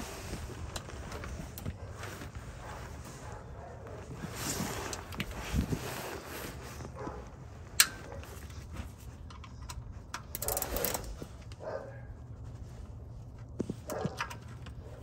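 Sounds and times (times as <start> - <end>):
rustling handling noise: 0.0 - 15.0.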